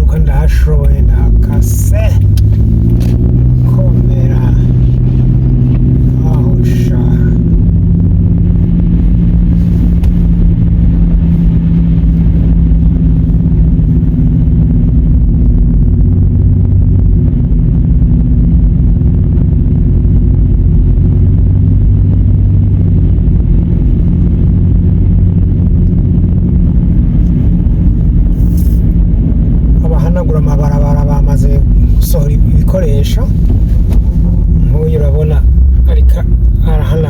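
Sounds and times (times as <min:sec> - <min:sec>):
car engine running: 0:00.0 - 0:37.0
low hum: 0:00.0 - 0:37.0.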